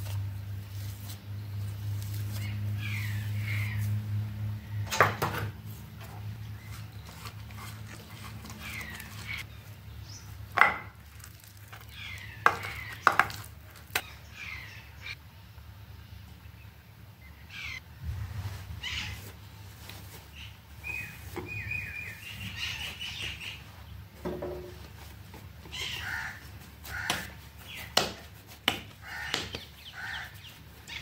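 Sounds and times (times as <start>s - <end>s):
birds chirping: 1.4s - 17.9s, 18.8s - 31.0s.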